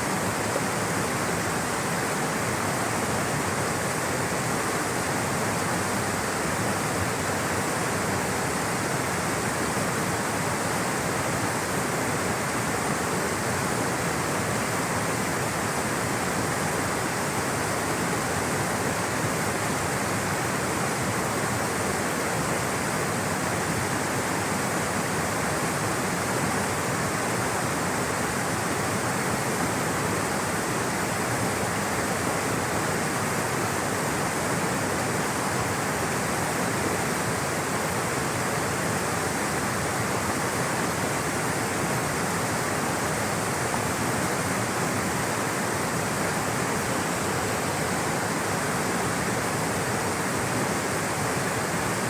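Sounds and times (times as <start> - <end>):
rushing water: 0.0 - 52.0.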